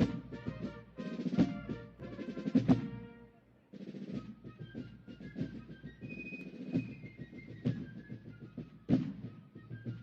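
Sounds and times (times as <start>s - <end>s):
military band music: 0.0s - 10.0s.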